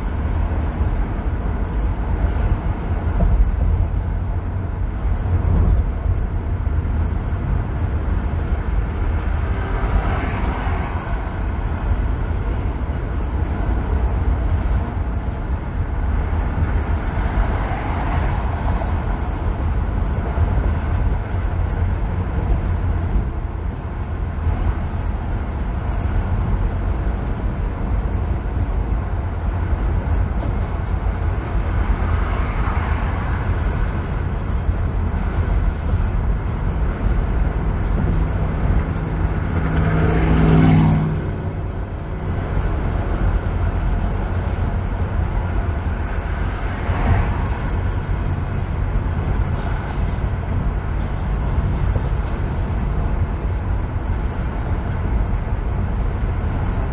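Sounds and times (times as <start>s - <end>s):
car road and tyre noise: 0.0s - 56.9s.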